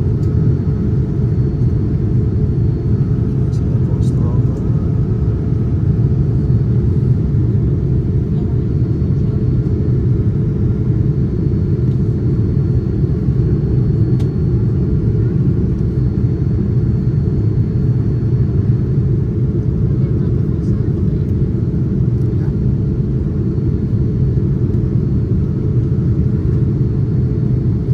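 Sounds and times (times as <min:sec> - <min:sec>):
aircraft engines and airflow roar: 0:00.0 - 0:27.9.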